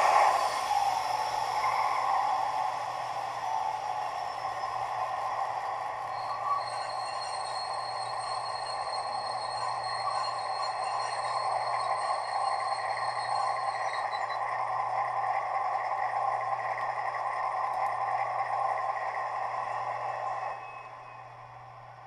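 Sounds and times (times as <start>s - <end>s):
diesel engine sound from small speaker: 0.0s - 22.0s
thin high whine: 0.0s - 22.0s.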